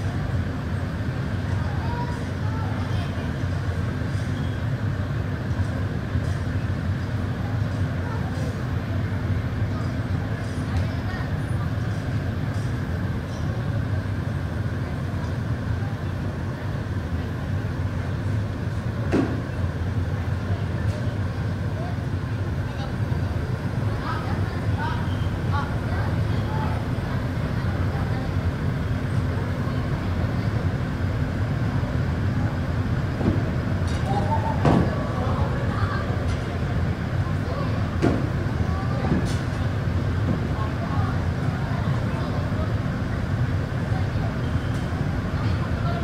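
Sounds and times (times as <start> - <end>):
blower fans rushing air: 0.0 - 46.0.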